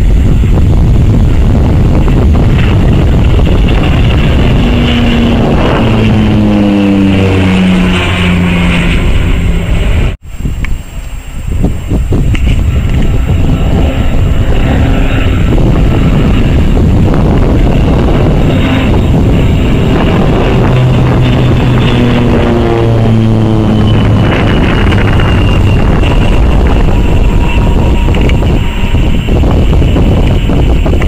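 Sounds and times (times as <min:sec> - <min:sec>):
propeller plane passing overhead: 0:00.0 - 0:31.0.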